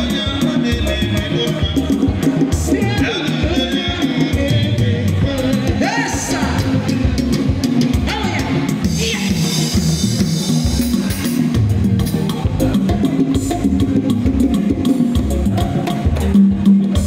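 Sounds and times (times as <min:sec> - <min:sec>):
live band playing dance music: 0:00.0 - 0:17.0.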